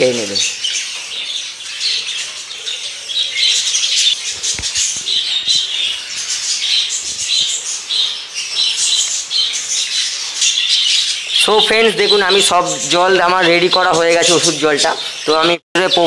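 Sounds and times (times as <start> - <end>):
budgerigars chattering and squawking: 0.0 - 16.0.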